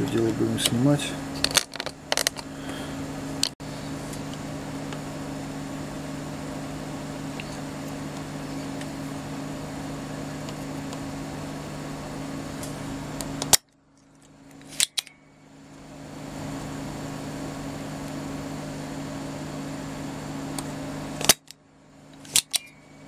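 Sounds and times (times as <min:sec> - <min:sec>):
low hum with hiss: 0:00.0 - 0:23.0.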